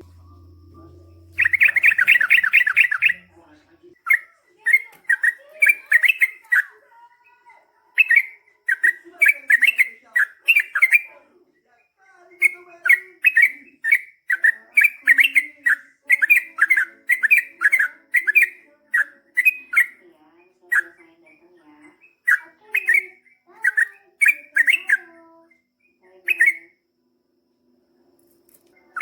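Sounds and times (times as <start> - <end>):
bird chirping song: 0.0 - 26.8.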